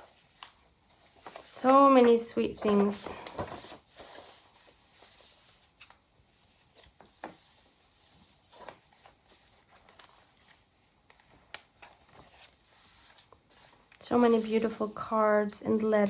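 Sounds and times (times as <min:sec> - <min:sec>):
paper cards rustling: 0:00.0 - 0:06.0, 0:06.6 - 0:16.0.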